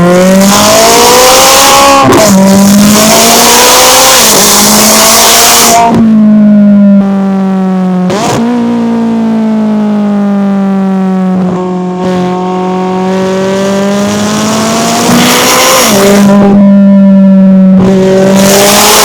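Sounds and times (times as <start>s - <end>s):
car exhaust drone: 0.0s - 19.0s.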